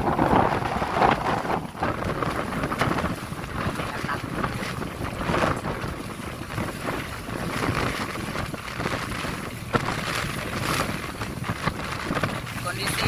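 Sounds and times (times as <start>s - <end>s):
water rumbling against hull: 0.0s - 13.0s
wave slapping: 0.0s - 13.0s
wind buffeting microphone: 0.0s - 13.0s.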